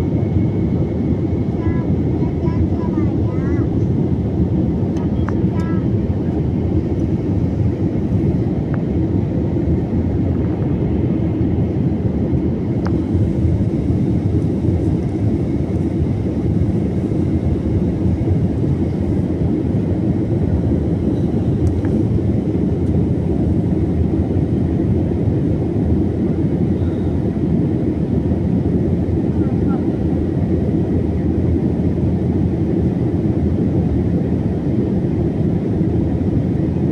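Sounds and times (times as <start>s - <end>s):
airplane engine deep rumble: 0.0s - 36.9s.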